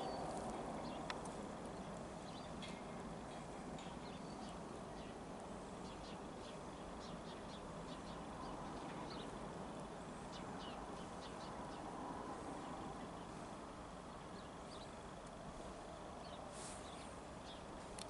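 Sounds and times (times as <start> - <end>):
birds chirping: 0.0 - 15.1, 16.2 - 17.8
low outdoor background hum: 0.0 - 18.0.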